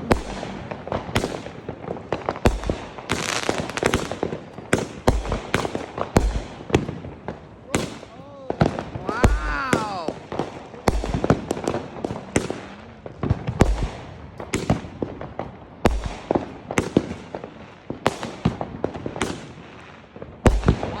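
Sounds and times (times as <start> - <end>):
deep firework booms: 0.0 - 21.0
fireworks bangs and pops: 0.0 - 21.0.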